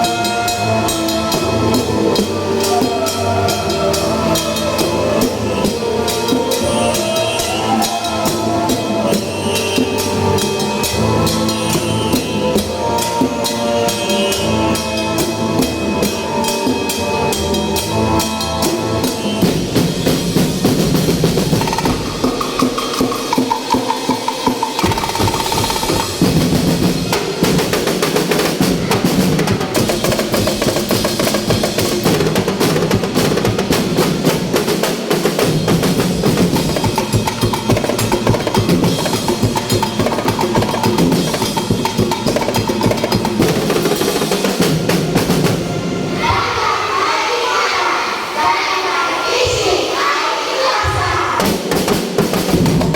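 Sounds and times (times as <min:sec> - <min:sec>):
drums playing fast beat: 0:00.0 - 0:46.7, 0:50.9 - 0:52.9.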